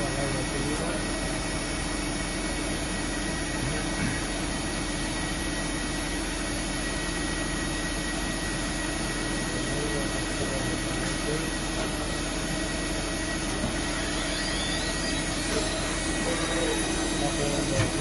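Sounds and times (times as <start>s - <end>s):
grinding machine whirring: 0.0s - 18.0s.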